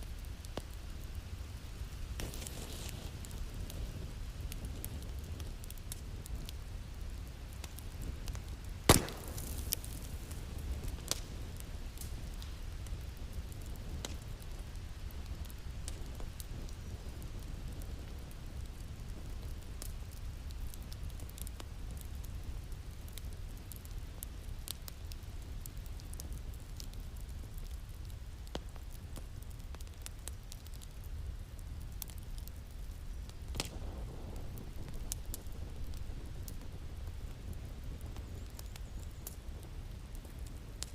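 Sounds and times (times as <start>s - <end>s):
low fire rumble: 0.0s - 40.9s
wood fire crackling: 0.0s - 40.9s.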